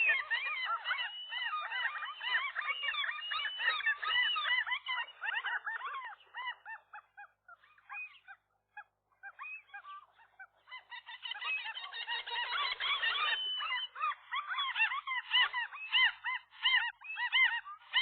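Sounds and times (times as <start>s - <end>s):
gulls calling: 0.0s - 8.4s, 9.3s - 18.0s.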